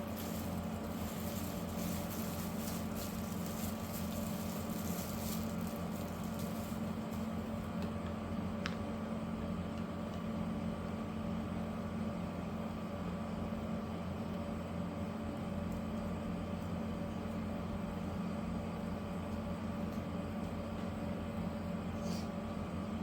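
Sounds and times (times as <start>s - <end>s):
machine hum: 0.0s - 21.7s.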